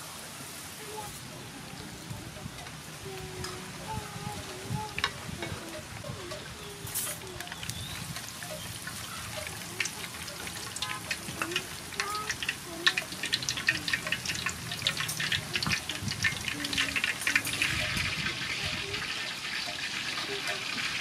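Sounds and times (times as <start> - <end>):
oil sizzling and crackling: 0.0 - 21.0.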